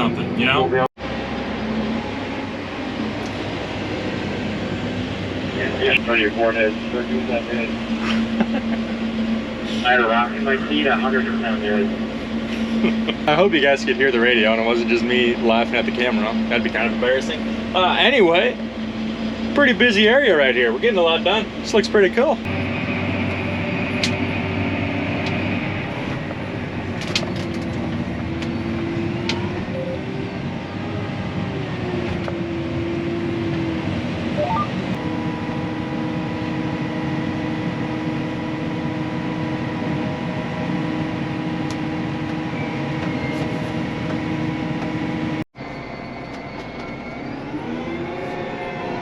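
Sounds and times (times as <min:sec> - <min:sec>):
engine running inside cab: 0:00.0 - 0:49.0.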